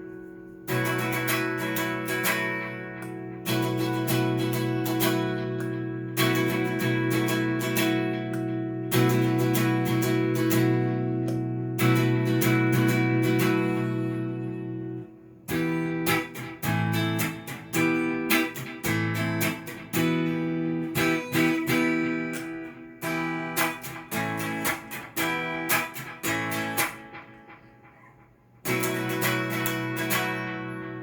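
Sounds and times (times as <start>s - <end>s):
electric guitar chords: 0.0s - 31.0s.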